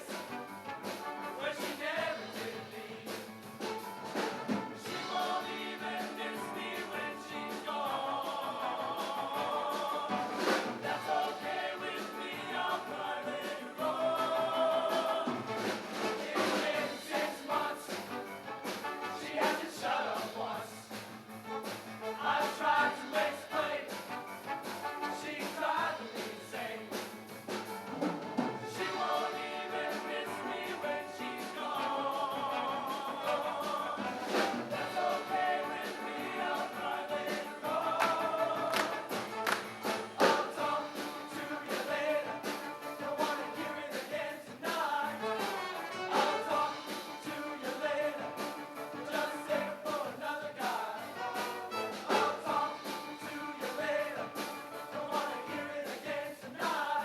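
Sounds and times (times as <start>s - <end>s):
choir singing in harmony: 0.0s - 27.2s, 28.1s - 57.0s
instrumental accompaniment: 0.0s - 43.9s, 44.7s - 50.0s, 51.0s - 55.7s
drum hits: 0.0s - 56.8s.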